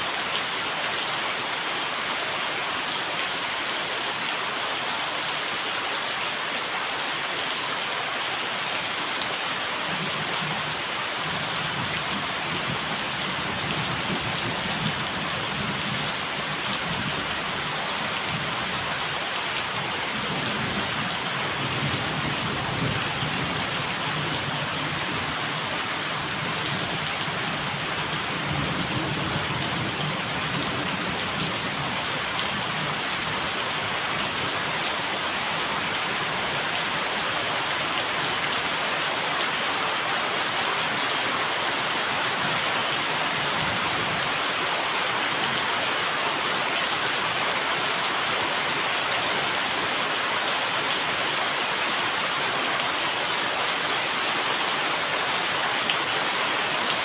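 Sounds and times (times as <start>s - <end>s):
heavy rain pattering: 8.1s - 57.0s.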